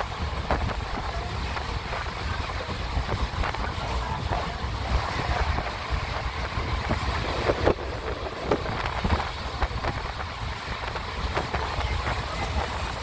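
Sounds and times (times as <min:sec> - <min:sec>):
train clanks and knocks: 0:00.0 - 0:13.0
train rumbling: 0:00.0 - 0:13.0
wind on microphone: 0:00.0 - 0:13.0.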